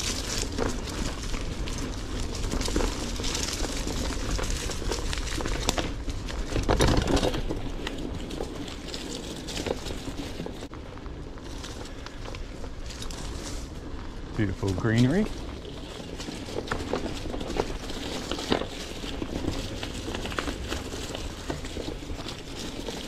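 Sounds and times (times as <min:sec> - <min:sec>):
bike jolt: 0:00.0 - 0:23.0
bike rattling over bumps: 0:00.0 - 0:23.0
tyres crunching over leaves and rocks: 0:00.0 - 0:23.0.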